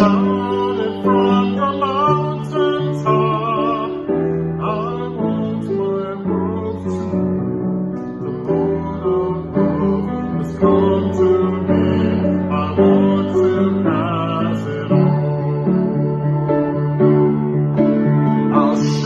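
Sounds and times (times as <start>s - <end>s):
person singing: 0.0s - 17.0s, 18.1s - 19.0s.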